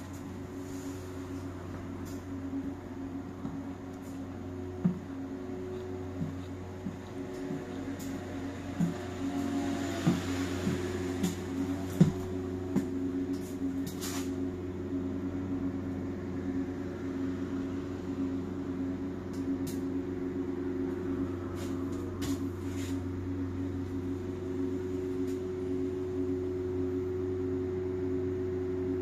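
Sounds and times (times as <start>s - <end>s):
bus machinery humming: 0.0s - 29.0s.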